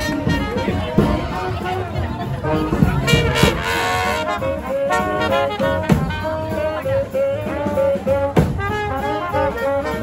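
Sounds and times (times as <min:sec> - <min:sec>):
street brass band playing: 0:00.0 - 0:10.0.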